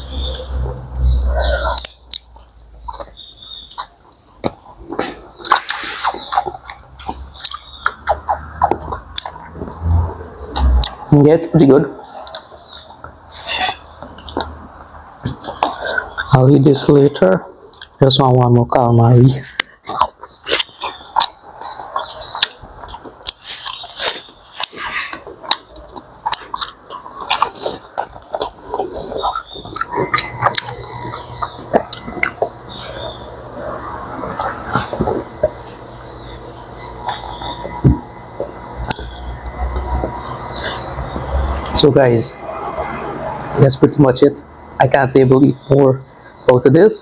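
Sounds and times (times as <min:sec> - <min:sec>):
person chewing: 0:00.0 - 0:11.1, 0:12.0 - 0:16.4, 0:17.6 - 0:18.0, 0:19.4 - 0:41.9
mouth clicks: 0:00.0 - 0:11.3, 0:11.9 - 0:18.3, 0:19.2 - 0:46.9.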